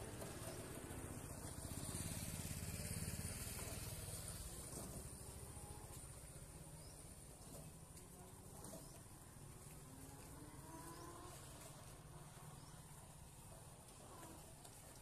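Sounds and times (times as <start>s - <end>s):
small motorcycle engine passing: 0.0s - 15.0s.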